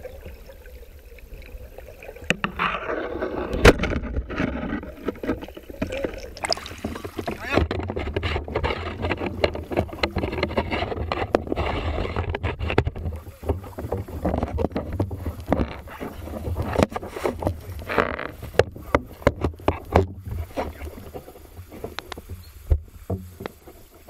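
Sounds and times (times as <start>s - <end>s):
shallow water sloshing and splashing: 0.0s - 24.0s.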